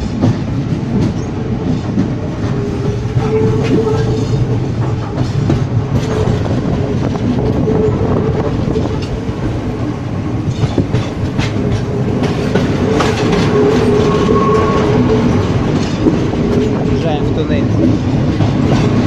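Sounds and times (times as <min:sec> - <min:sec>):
train wheels rumbling: 0:00.0 - 0:19.0
wheels clicking over rail joints: 0:00.0 - 0:19.0.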